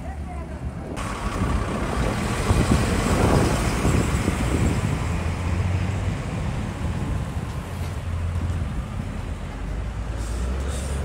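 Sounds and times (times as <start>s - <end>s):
rushing noise: 1.0s - 11.0s.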